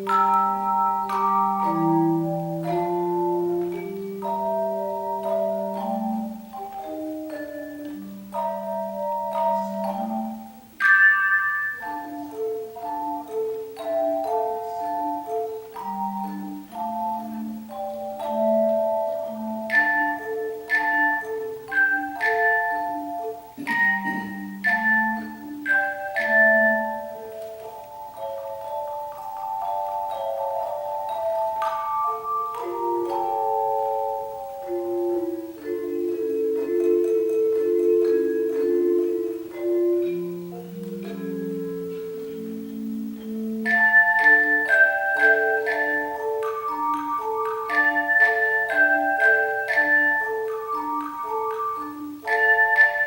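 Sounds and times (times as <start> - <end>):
tone chimes playing melody: 0.0 - 53.0.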